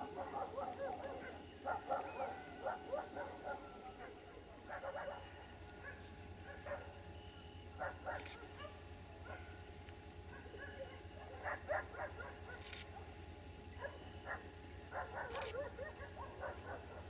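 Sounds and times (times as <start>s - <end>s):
faint dog barking: 0.0s - 7.0s, 7.8s - 9.6s, 10.3s - 13.1s, 13.8s - 17.0s.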